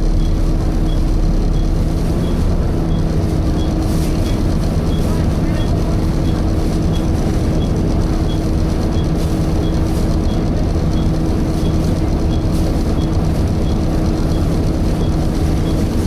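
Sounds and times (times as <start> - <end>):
bus diesel engine rumble: 0.0 - 16.0
radiator cooling fan hum: 0.0 - 16.0.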